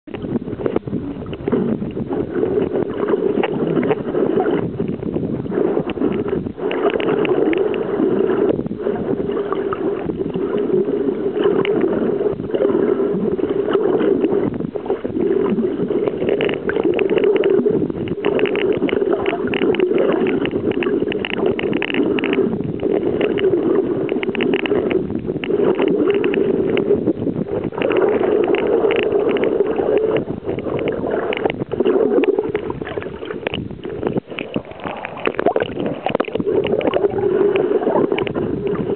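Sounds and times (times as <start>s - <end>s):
muffled underwater water rush: 0.0s - 38.9s
crackling: 0.1s - 38.9s.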